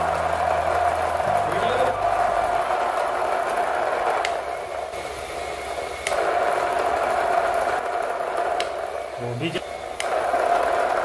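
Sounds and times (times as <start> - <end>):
generator whine: 0.0 - 11.0
hiss: 0.0 - 11.0.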